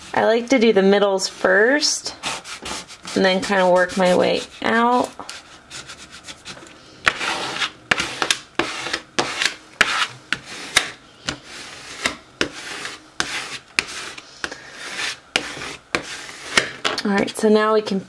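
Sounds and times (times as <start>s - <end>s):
plastic scraper rubbing tape: 2.2s - 16.7s.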